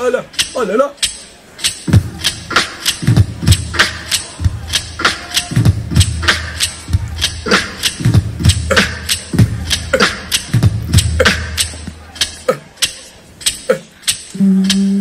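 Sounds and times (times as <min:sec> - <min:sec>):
beatbox drum sounds: 0:00.0 - 0:15.0
low bass loop: 0:00.0 - 0:15.0.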